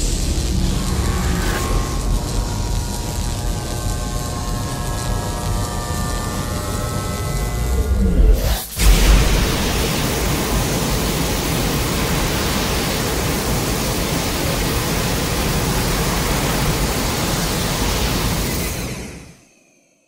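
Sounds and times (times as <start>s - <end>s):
steady rushing noise: 0.0s - 6.4s, 7.6s - 18.9s.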